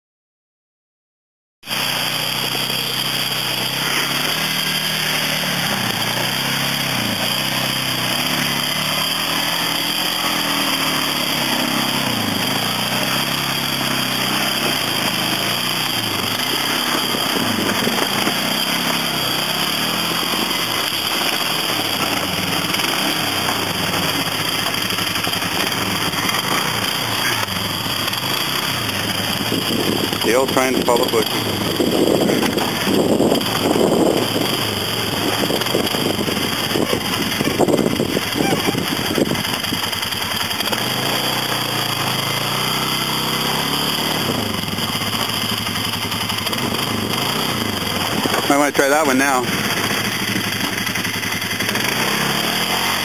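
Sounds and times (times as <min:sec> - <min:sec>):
atv engine labouring: 0:01.6 - 0:53.0.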